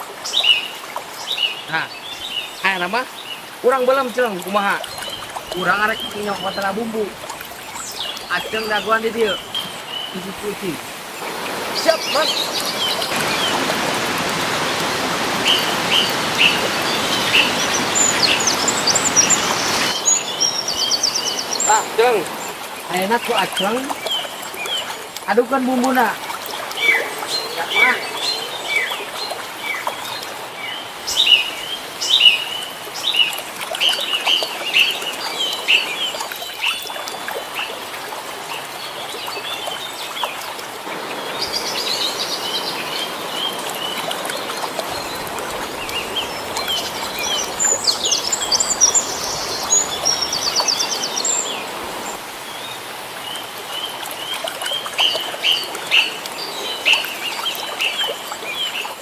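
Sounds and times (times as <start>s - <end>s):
small birds chirping: 0.2s - 37.8s, 38.5s - 59.0s.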